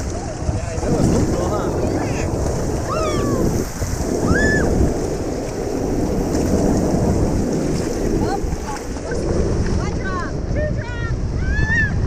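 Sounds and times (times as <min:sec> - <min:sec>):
rushing splashing water: 0:00.0 - 0:12.0
wind buffeting microphone: 0:00.0 - 0:12.0.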